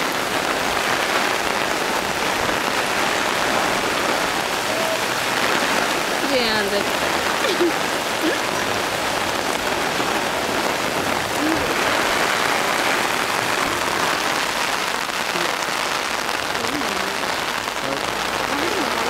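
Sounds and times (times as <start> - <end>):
heavy rain on an umbrella: 0.0 - 19.0.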